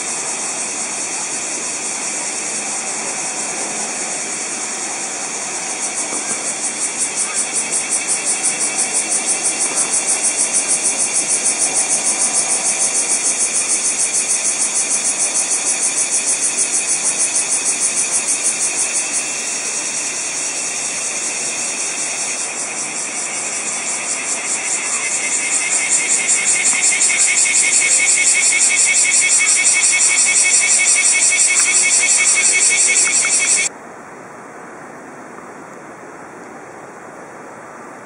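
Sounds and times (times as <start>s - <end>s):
cicadas buzzing: 0.0s - 33.7s.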